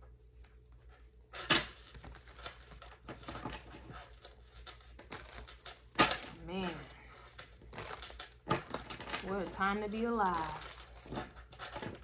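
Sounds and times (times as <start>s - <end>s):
objects rustling and clicking: 0.0s - 12.0s.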